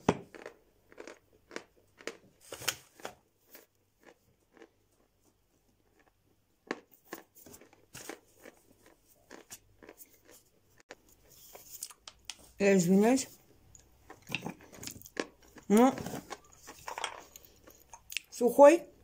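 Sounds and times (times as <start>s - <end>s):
person chewing chalk crunches: 0.2s - 12.6s, 13.5s - 18.3s.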